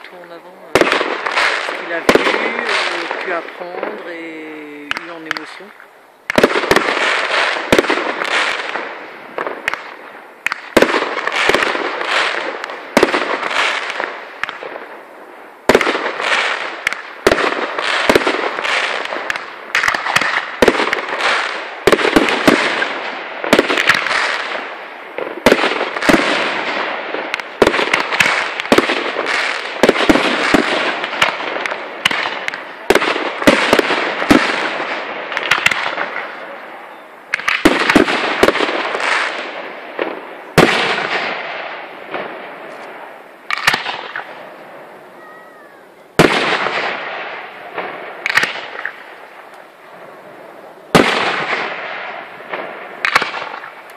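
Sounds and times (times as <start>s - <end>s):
crackling hiss of fireworks: 0.0s - 53.9s.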